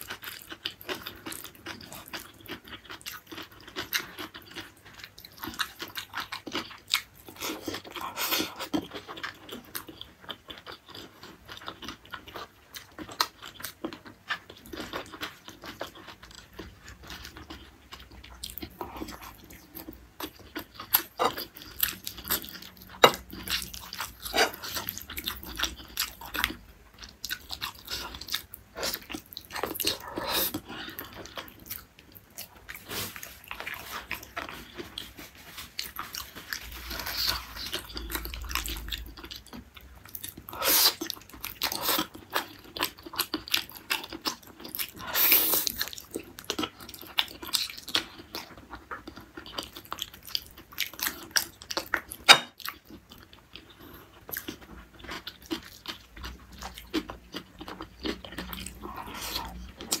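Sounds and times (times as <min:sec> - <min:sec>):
person chewing wetly: 0:00.0 - 1:00.0.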